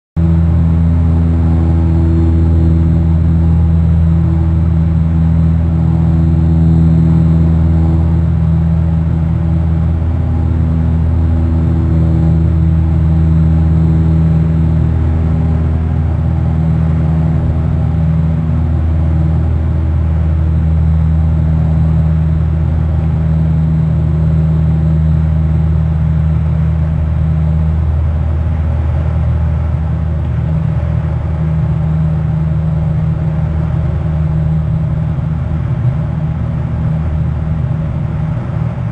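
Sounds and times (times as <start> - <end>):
deep droning rumble: 0.2 - 38.9.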